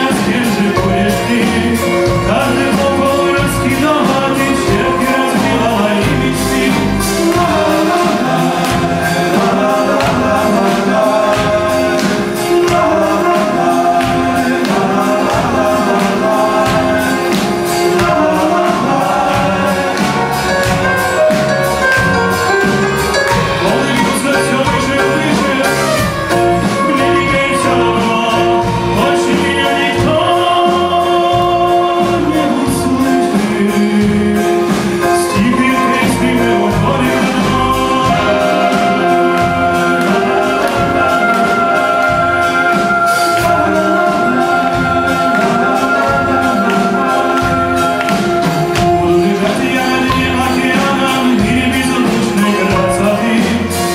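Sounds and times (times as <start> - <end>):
live band music: 0.0 - 53.9
man singing: 0.0 - 53.9.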